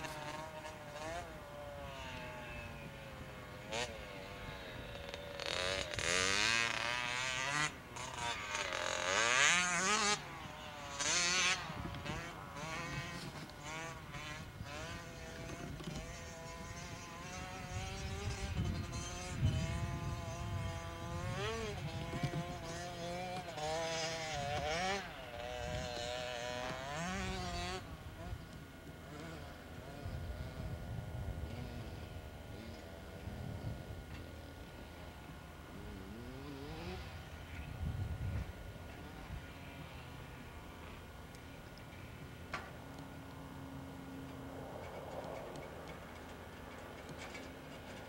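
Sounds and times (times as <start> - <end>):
distant dirt bike engine revving: 0.0 - 48.0.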